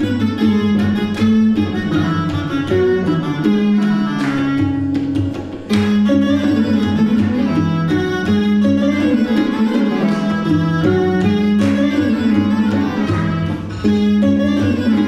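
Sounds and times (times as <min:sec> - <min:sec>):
plucked guitar: 0:00.0 - 0:15.0
tabla: 0:00.0 - 0:15.0
woodwind melody: 0:00.0 - 0:15.0.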